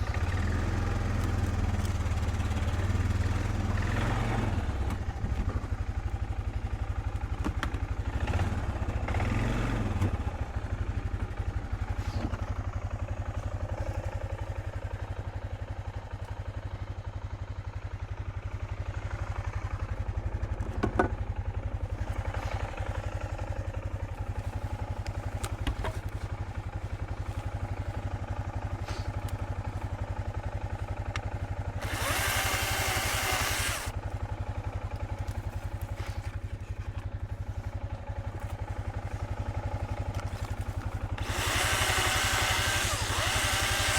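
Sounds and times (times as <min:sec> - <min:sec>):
small engine idling: 0:00.0 - 0:43.9.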